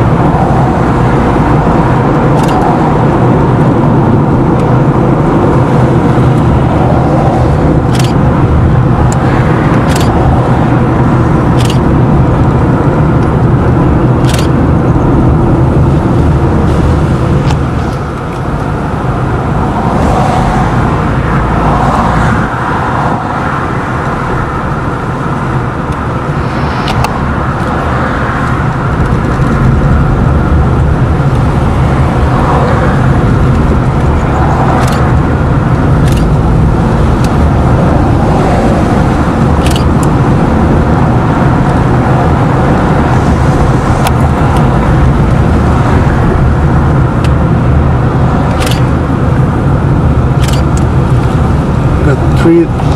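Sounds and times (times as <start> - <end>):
car engine and tyre noise: 0.0 - 52.9.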